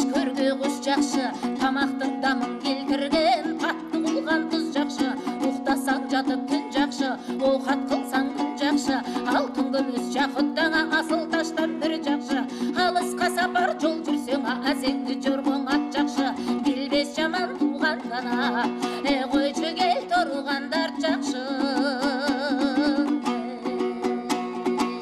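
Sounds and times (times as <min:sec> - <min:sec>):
person singing: 0:00.0 - 0:25.0
strummed string instrument: 0:00.0 - 0:25.0.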